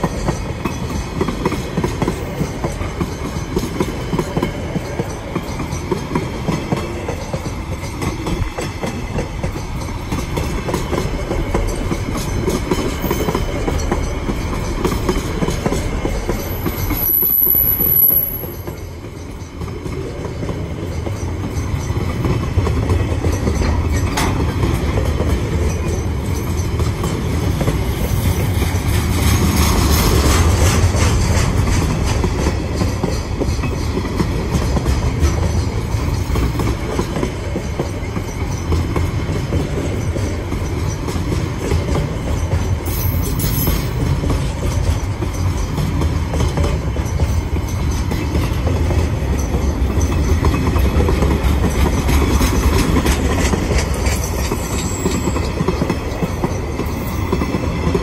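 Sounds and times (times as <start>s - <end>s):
rail joints clattering: 0.0s - 58.0s
train wheels rumbling on rails: 0.0s - 58.0s.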